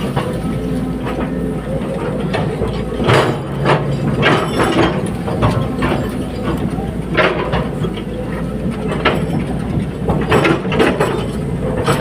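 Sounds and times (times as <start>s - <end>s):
excavator diesel engine running: 0.0s - 12.0s
excavator tracks clanking: 0.0s - 12.0s.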